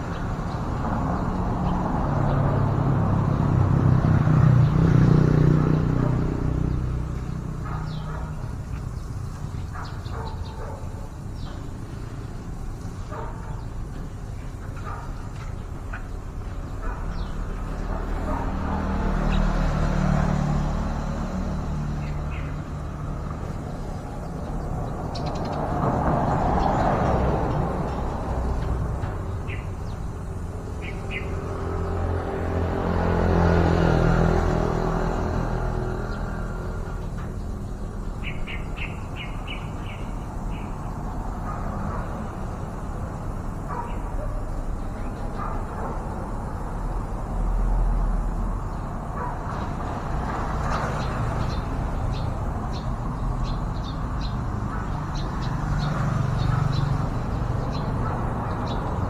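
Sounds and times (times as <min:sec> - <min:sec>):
vehicle passing: 0:00.0 - 0:59.0.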